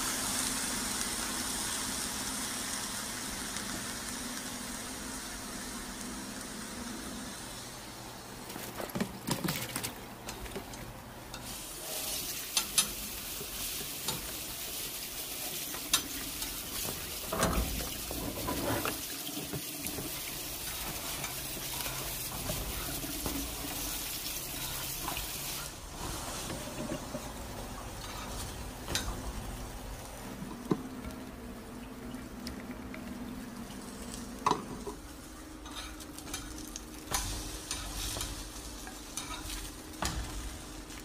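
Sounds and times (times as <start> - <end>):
steady cooking hiss: 0.0 - 9.2, 10.0 - 41.0.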